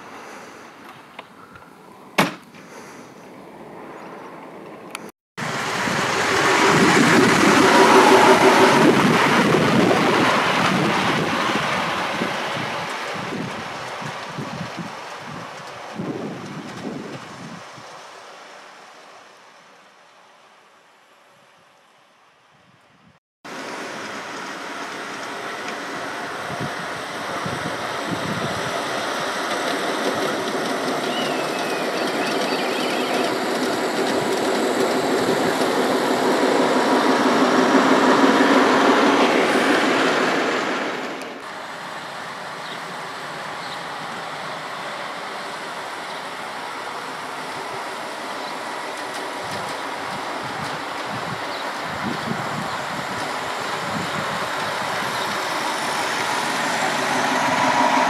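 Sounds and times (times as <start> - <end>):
miniature train running on track: 5.4 - 18.9, 23.5 - 58.0.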